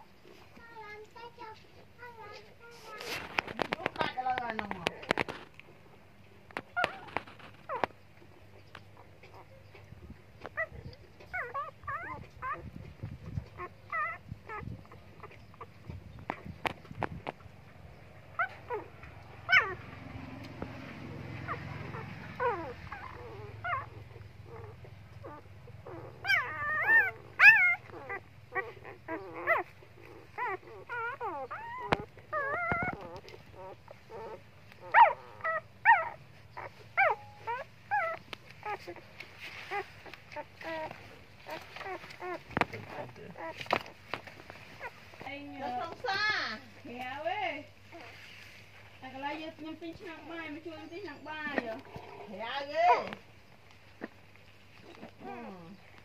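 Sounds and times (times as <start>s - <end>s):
puppies whimpering: 6.6s - 48.2s, 48.8s - 56.0s.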